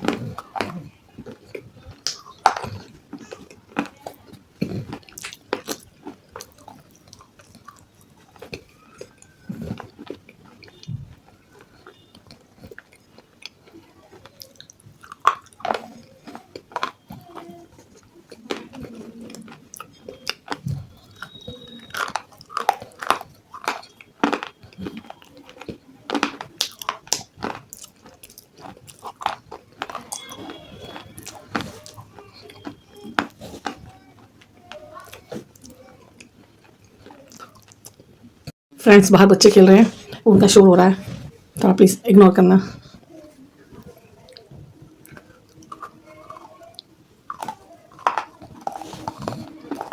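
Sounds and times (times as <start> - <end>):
crunchy food chewing: 0.0 - 38.6, 39.6 - 49.9.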